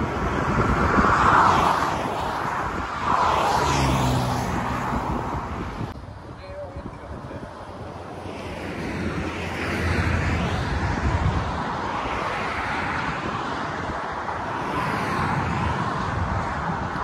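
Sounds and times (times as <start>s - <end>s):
highway traffic rushing: 0.0s - 17.0s.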